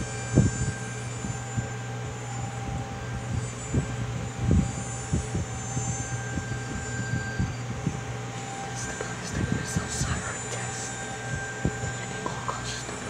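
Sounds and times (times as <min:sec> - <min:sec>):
low hum: 0:00.0 - 0:13.0
warning siren steady tone: 0:00.0 - 0:13.0.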